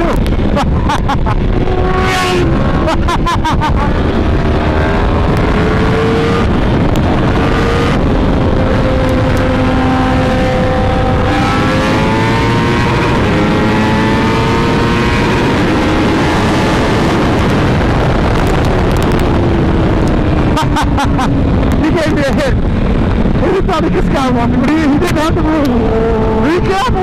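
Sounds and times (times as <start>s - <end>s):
motorcycle engine accelerating: 0.0s - 27.0s
rush of riding wind: 0.0s - 27.0s.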